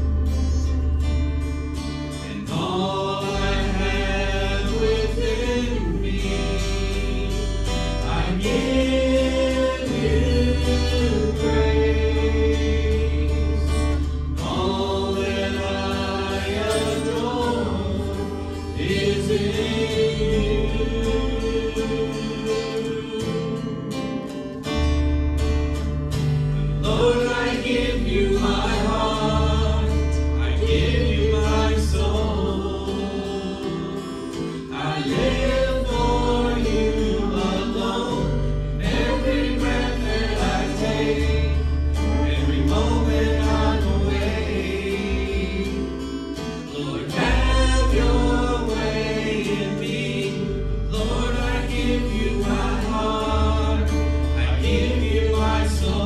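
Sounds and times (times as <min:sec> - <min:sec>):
acoustic guitar: 0:00.0 - 0:56.0
deep bass notes: 0:00.0 - 0:56.0
group singing into microphones: 0:01.8 - 0:24.5, 0:26.6 - 0:56.0.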